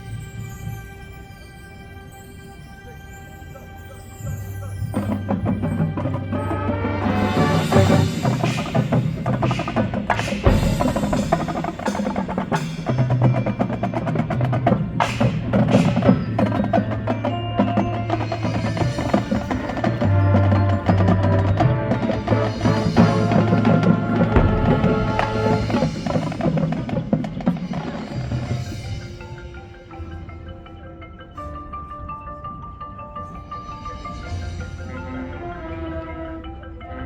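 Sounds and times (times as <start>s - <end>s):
chime-like ringing: 0.0s - 37.0s
wood-block and mallet strikes: 0.0s - 37.0s
marching band playing: 3.0s - 30.3s, 33.6s - 37.0s
drums: 3.9s - 36.8s.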